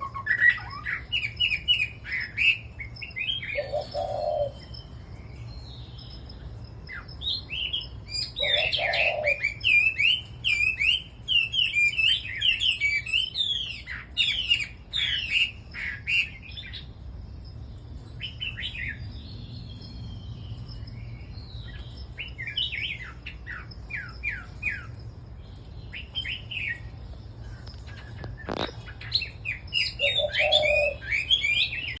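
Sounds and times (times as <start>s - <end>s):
birds chirping and warbling: 0.0s - 32.0s.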